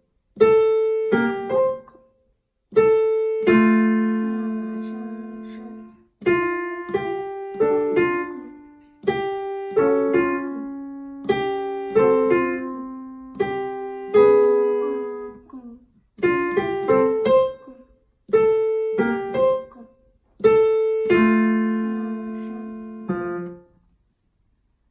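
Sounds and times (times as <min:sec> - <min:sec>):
digital piano melody: 0:00.0 - 0:02.0, 0:02.7 - 0:15.4, 0:16.2 - 0:19.8, 0:20.4 - 0:23.7.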